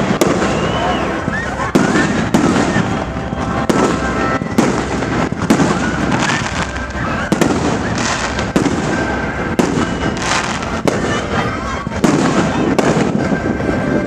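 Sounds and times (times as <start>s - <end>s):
fireworks bangs: 0.0s - 14.0s
rumble and crackle of fireworks: 0.0s - 14.0s.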